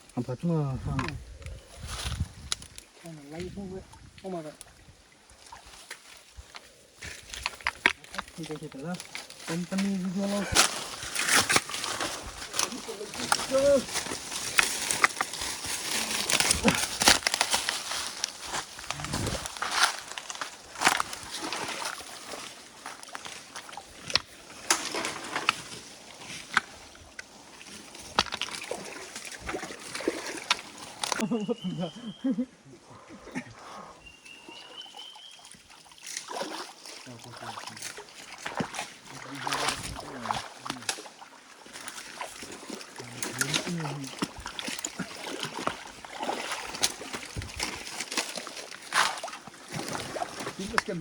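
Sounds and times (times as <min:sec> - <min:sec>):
water sloshing in stream: 0:00.8 - 0:31.6, 0:33.1 - 0:51.0.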